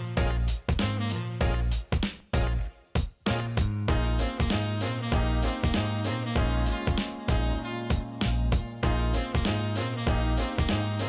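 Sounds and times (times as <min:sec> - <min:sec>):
upbeat jazzy instrumental music: 0:00.0 - 0:11.0.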